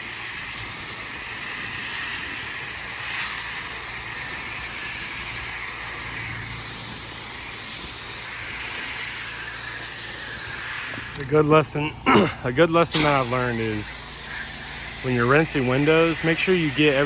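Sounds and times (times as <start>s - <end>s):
pressure washer engine hum: 0.0s - 17.0s
water spraying against a wall: 0.0s - 17.0s.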